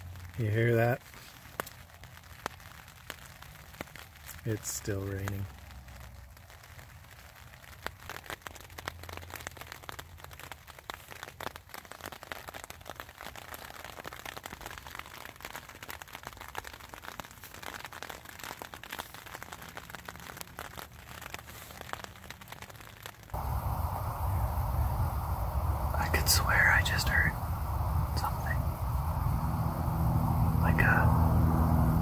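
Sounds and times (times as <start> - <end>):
rain pattering on tent fabric: 0.0 - 32.0.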